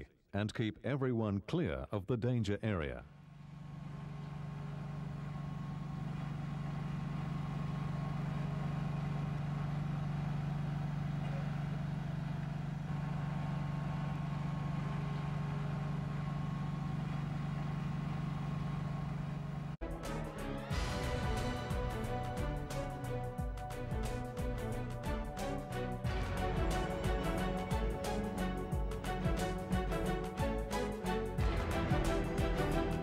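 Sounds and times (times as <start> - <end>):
track maintenance machine droning: 3.2 - 33.0.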